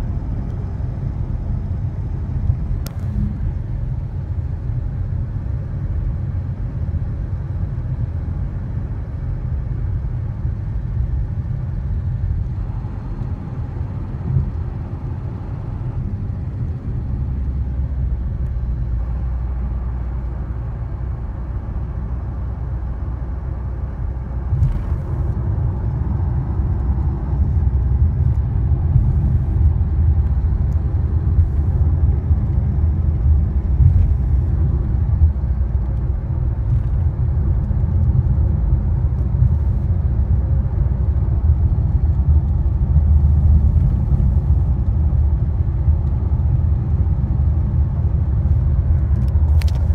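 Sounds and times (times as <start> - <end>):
car engine rumbling under load: 0.0 - 49.9.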